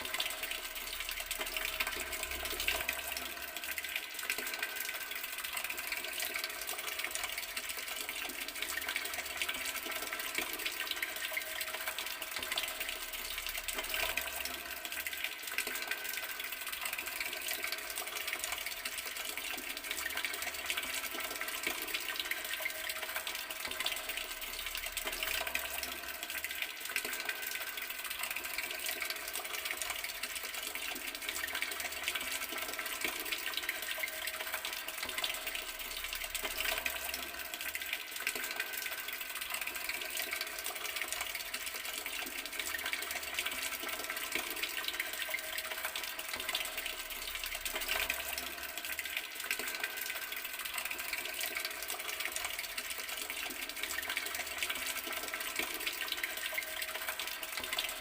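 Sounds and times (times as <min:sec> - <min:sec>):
water running from garden tap: 0:00.0 - 0:58.0.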